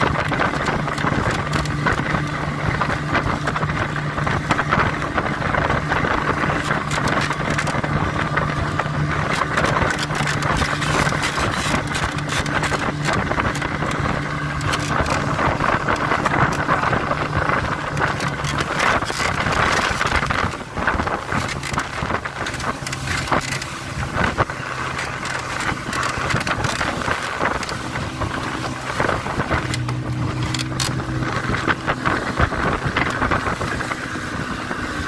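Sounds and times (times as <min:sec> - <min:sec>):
outboard motor running: 0:00.0 - 0:35.0
water rushing: 0:00.0 - 0:35.0
water splashing against hull: 0:00.0 - 0:35.0
wind: 0:00.0 - 0:35.0.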